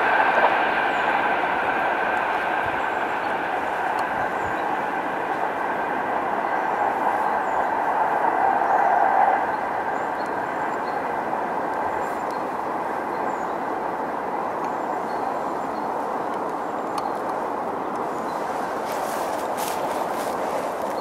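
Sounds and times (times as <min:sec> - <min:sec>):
electric train rail noise: 0:00.0 - 0:21.0.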